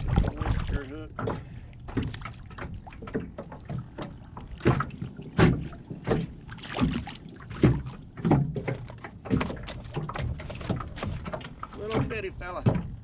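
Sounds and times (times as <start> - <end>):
knocks and clatter in boat: 0.0 - 13.0.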